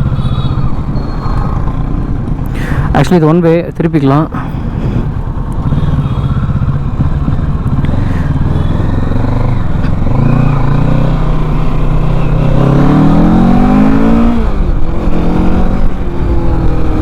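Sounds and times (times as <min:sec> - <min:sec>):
motorcycle engine revving: 0:00.0 - 0:02.5, 0:04.6 - 0:17.0.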